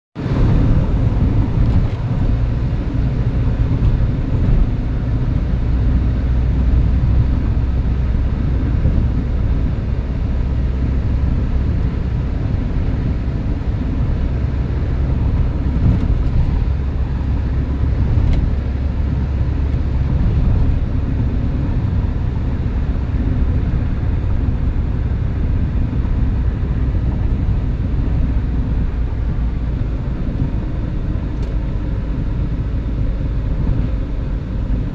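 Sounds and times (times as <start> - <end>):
car engine and road noise: 0.2 - 34.9.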